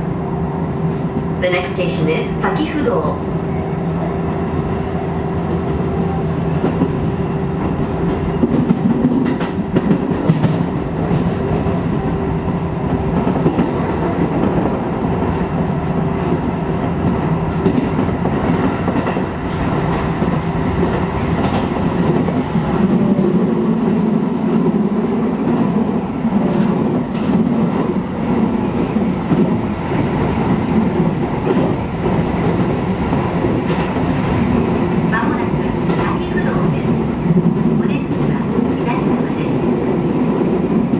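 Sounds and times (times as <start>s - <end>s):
electric train running hum: 0.0s - 40.9s.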